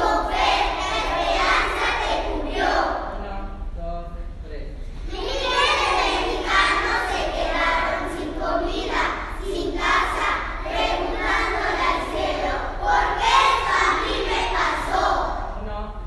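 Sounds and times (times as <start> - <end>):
children reciting in unison: 0.0 - 3.2, 5.0 - 15.7.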